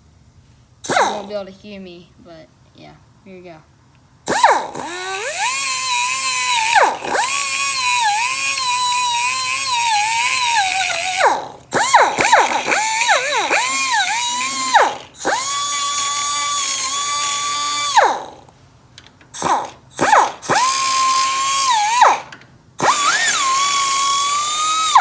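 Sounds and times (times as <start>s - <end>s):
rotary tool grinding metal: 0.9s - 1.3s, 4.3s - 18.5s, 19.4s - 25.0s.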